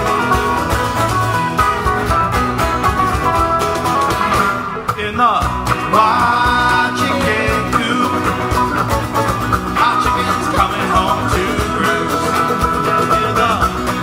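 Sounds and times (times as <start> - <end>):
banjo: 0.0 - 14.0
cajon beat: 0.0 - 14.0
electric bass guitar: 0.0 - 14.0
mandolin: 0.0 - 14.0.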